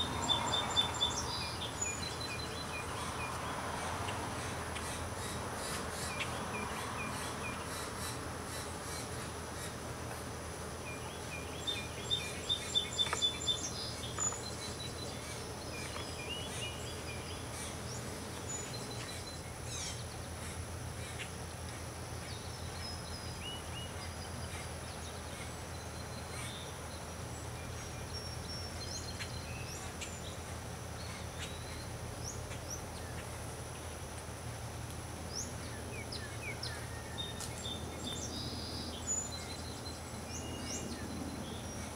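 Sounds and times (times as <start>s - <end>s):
small birds chirping: 0.0s - 34.2s, 35.2s - 41.9s
low background hum: 0.0s - 41.9s.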